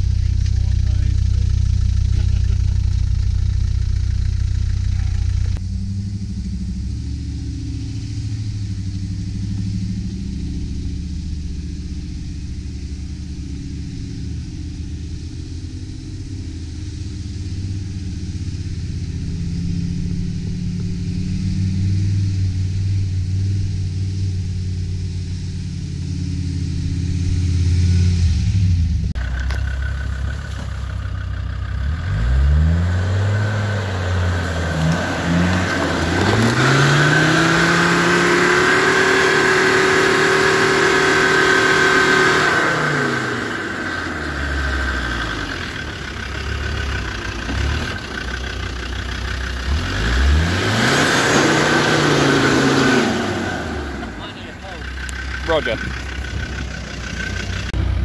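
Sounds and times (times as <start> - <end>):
off-road vehicle engines revving: 0.0 - 58.0.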